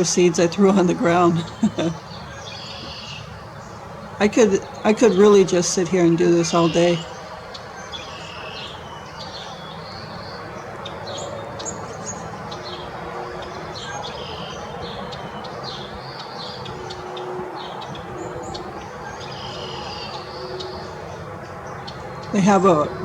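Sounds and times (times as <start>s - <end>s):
distant highway traffic hum: 0.0s - 23.0s
songbirds chirping: 0.0s - 23.0s.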